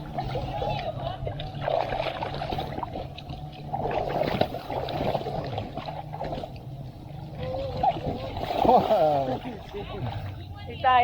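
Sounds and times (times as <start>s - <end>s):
pool water sloshing and splashing: 0.0s - 11.0s
steady low hum: 0.0s - 11.0s.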